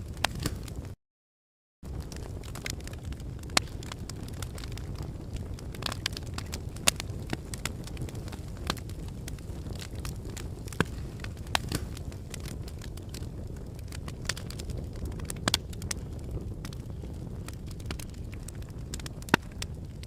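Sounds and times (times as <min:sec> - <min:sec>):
lava cracking and clicking: 0:00.0 - 0:01.0, 0:01.9 - 0:20.0.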